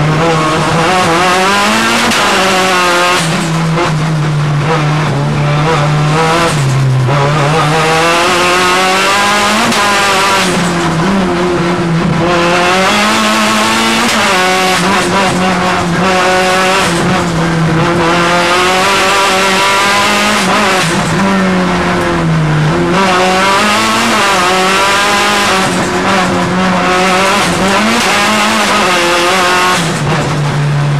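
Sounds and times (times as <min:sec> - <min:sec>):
car engine revving through gears: 0:00.0 - 0:30.9.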